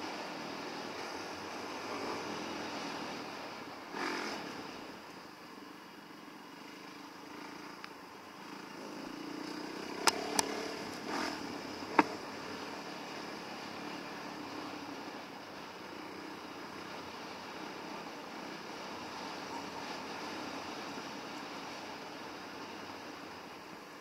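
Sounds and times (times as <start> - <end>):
dirt bike engine running: 0.0 - 23.6.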